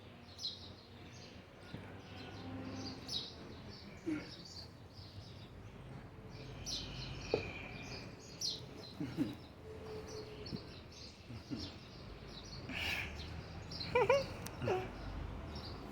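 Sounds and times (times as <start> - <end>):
birds chirping: 0.3 - 15.9.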